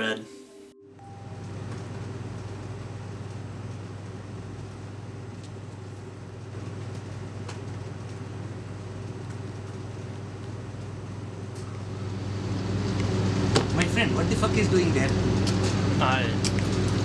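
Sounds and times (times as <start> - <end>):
refrigeration equipment humming: 0.0 - 17.0.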